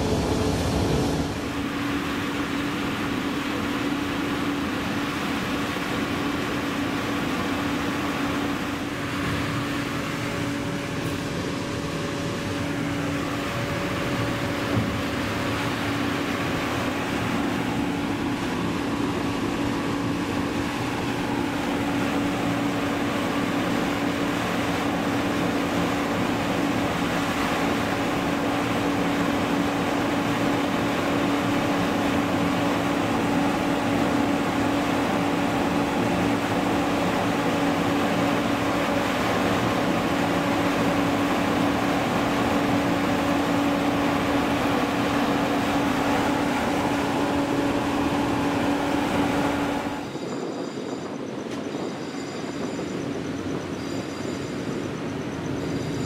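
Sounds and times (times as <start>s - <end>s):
machinery drone: 0.0s - 56.0s.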